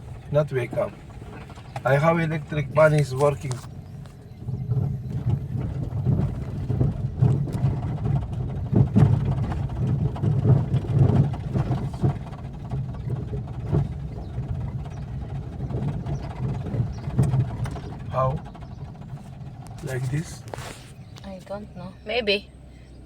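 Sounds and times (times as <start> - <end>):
knocks and rattles: 0.0 - 21.5
vehicle engine and road noise: 0.0 - 23.0.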